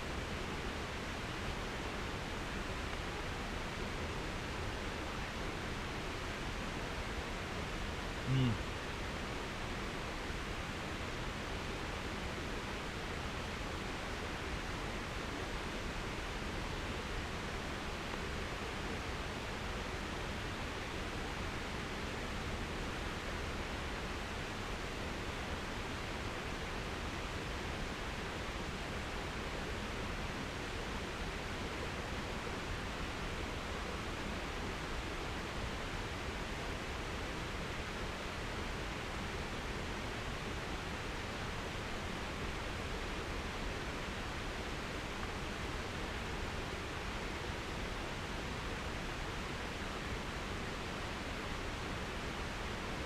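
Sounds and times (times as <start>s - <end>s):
steady outdoor rushing hiss: 0.0s - 53.0s.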